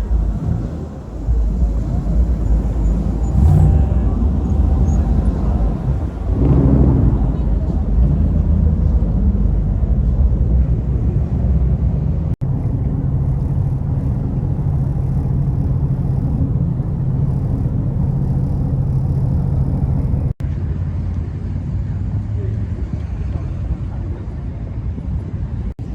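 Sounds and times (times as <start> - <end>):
car engine rumbling: 0.0 - 25.9.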